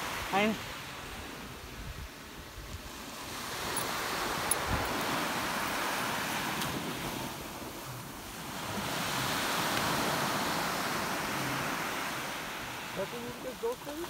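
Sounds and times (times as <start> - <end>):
ocean surf washing on shore: 0.0 - 14.0.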